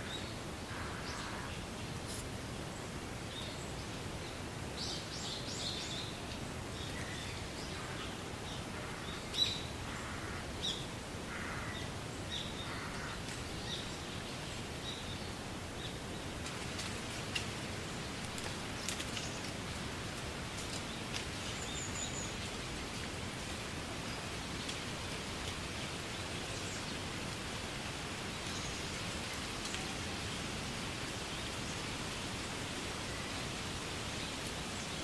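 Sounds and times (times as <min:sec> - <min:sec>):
wind rustling through reeds: 0:00.0 - 0:35.0.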